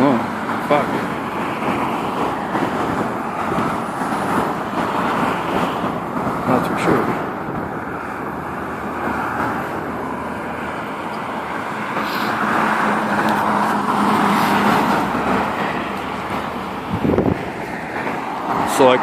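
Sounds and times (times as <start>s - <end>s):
low engine hum: 0.0s - 19.0s
road traffic rushing: 0.0s - 19.0s
vehicle passing: 0.0s - 19.0s.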